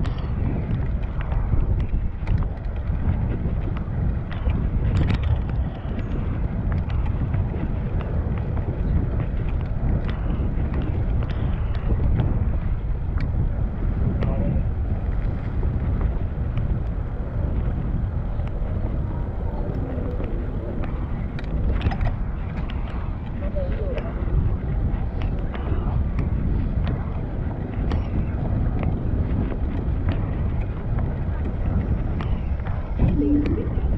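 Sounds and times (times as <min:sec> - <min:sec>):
faint ticks and clicks: 0:00.0 - 0:13.5, 0:18.4 - 0:33.9
wind rushing over microphone: 0:00.0 - 0:33.9.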